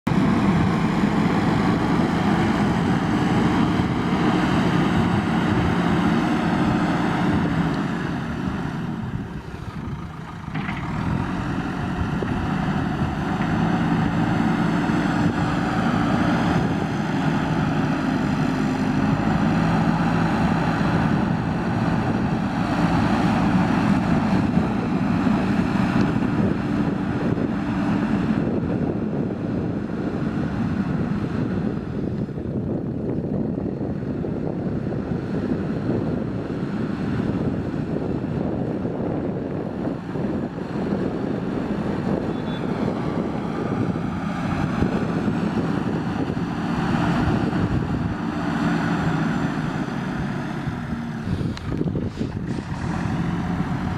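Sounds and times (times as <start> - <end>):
diesel engine working: 0.0 - 53.9.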